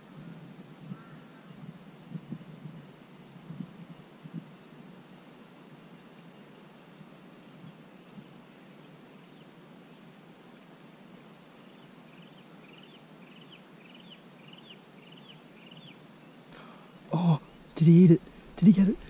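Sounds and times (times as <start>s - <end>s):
high insect buzz: 0.0s - 19.0s.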